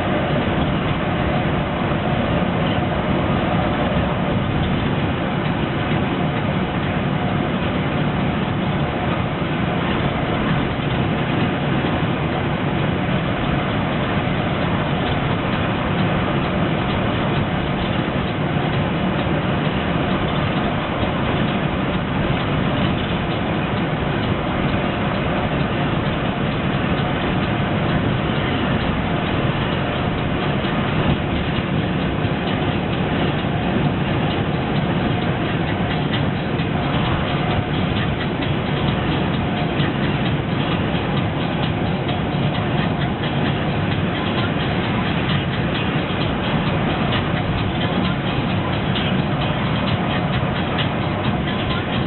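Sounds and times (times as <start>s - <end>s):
diesel engine drone: 0.0s - 52.0s
road noise: 0.0s - 52.0s.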